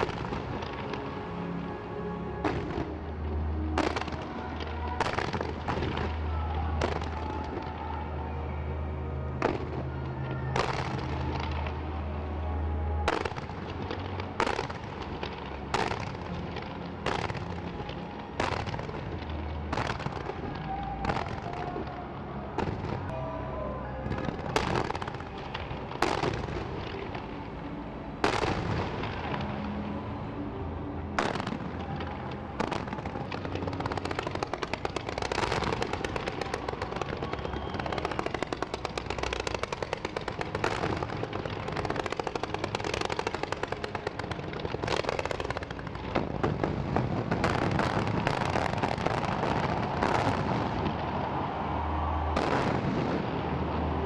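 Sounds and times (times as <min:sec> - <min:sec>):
fireworks bangs: 0:00.0 - 0:01.2, 0:02.4 - 0:03.0, 0:03.8 - 0:08.0, 0:09.4 - 0:09.9, 0:10.5 - 0:11.8, 0:13.0 - 0:22.0, 0:22.6 - 0:23.2, 0:24.0 - 0:27.4, 0:28.2 - 0:30.0, 0:31.2 - 0:54.0
fireworks crackling: 0:00.0 - 0:01.8, 0:02.4 - 0:08.5, 0:09.3 - 0:23.2, 0:24.0 - 0:30.4, 0:31.1 - 0:54.0.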